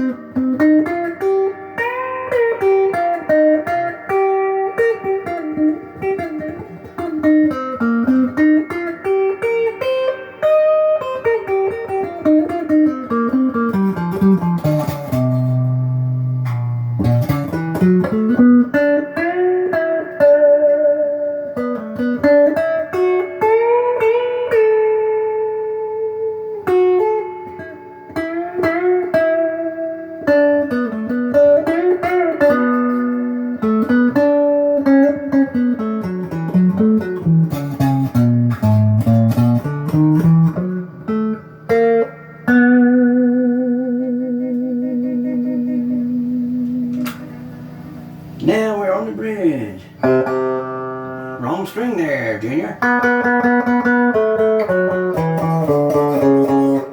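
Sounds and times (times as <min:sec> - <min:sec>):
electric guitar lead lines: 0:00.0 - 0:56.9.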